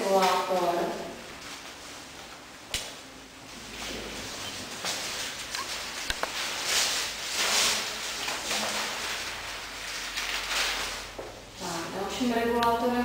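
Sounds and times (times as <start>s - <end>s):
large paper sheets rustling: 0.0s - 12.4s.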